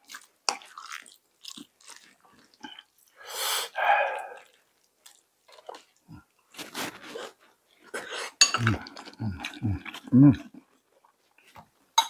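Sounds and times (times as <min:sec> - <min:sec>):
soft chewing: 0:00.0 - 0:03.2, 0:03.8 - 0:11.9.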